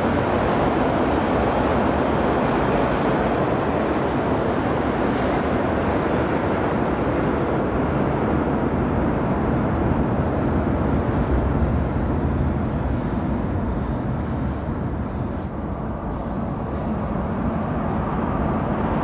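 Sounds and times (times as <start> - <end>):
subway train rumbling through tunnel: 0.0 - 19.0.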